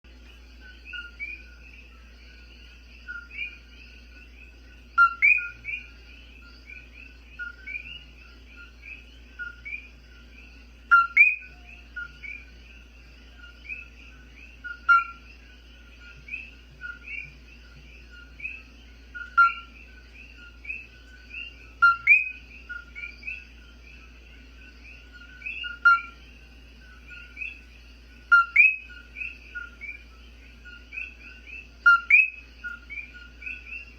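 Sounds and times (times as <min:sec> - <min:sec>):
chorus of frogs chirping: 0:00.1 - 0:33.9.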